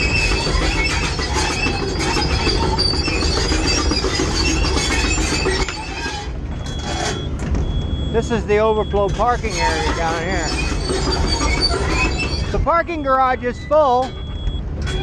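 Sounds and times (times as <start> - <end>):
track chain squealing and screeching: 0.0 - 7.4, 8.1 - 15.0
diesel engine rumble: 0.0 - 15.0.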